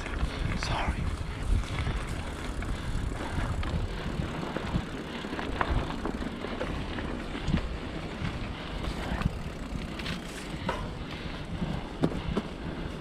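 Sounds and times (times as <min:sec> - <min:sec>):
bike tyres rumbling on dirt: 0:00.0 - 0:13.0
bike knocks and rattles: 0:01.6 - 0:13.0.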